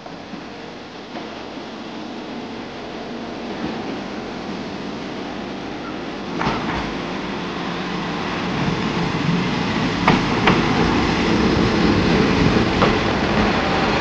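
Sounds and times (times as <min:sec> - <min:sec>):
diesel railcar rumbling: 0:00.0 - 0:14.0.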